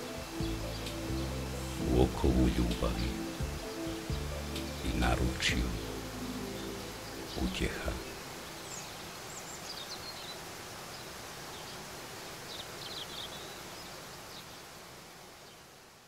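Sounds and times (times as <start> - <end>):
birds chirping: 0.0 - 11.8, 12.4 - 14.8
waterfall rushing: 0.0 - 15.4.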